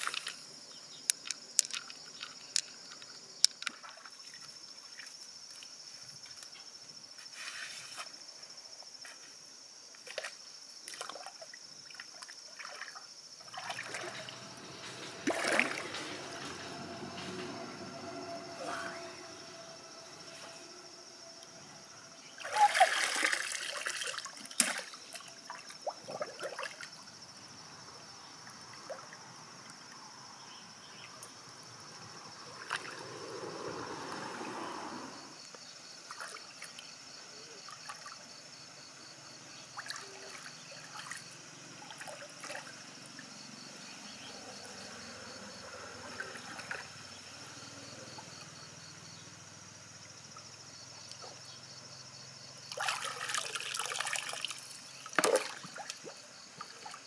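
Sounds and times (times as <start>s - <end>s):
water splashing and trickling: 0.0s - 6.5s, 9.9s - 38.6s, 39.5s - 48.6s, 52.6s - 57.0s.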